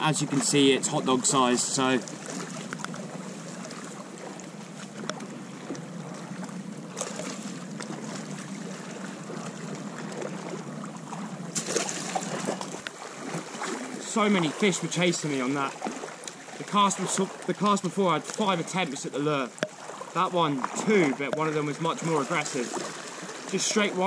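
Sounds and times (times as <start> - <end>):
rush of water: 0.0 - 24.0
sea washing around rocks: 0.0 - 24.0.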